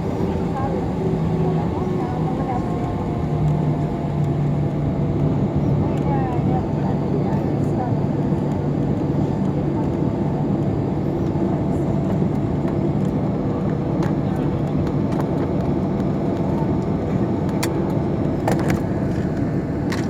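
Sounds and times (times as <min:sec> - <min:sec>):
airliner engines droning: 0:00.0 - 0:20.0.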